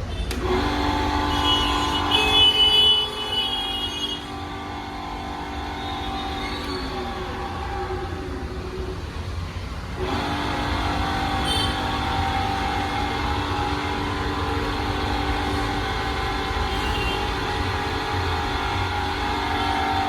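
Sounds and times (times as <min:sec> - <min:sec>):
grinder motor hum: 0:00.1 - 0:20.0.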